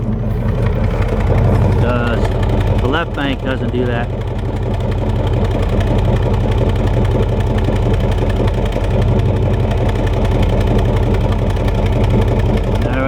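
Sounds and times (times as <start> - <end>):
engine idling with rapid pulsing: 0.0 - 13.0.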